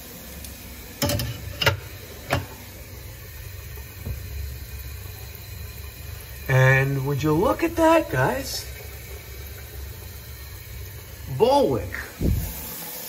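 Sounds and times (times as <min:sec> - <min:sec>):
water rushing down a drain: 0:00.0 - 0:13.0.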